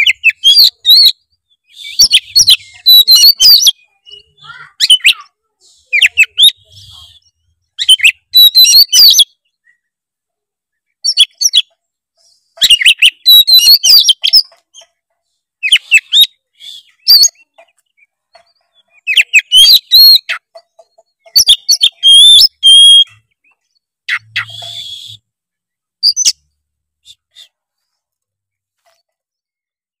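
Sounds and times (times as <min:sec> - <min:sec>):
bird singing varied song: 0:00.0 - 0:29.7.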